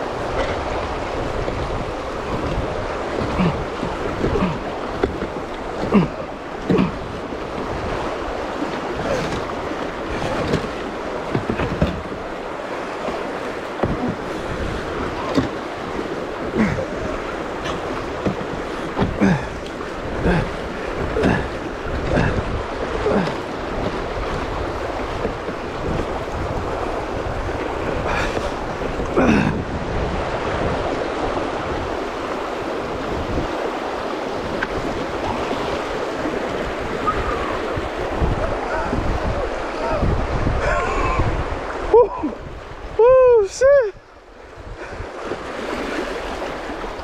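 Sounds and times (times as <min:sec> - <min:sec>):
kayak splashes: 0:00.0 - 0:47.0
river rushing over rocks: 0:00.0 - 0:47.0.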